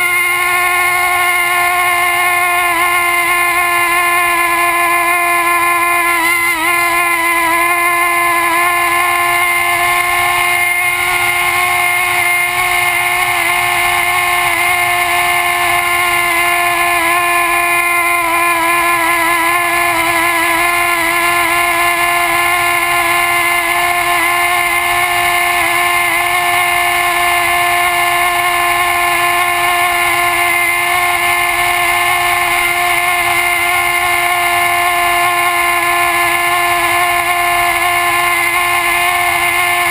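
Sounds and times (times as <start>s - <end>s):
model aircraft propeller whine: 0.0s - 39.9s.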